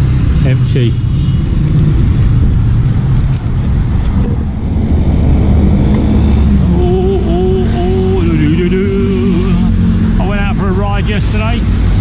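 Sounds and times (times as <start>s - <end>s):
motorcycle engine: 0.0s - 12.0s
road traffic rumble: 0.0s - 12.0s.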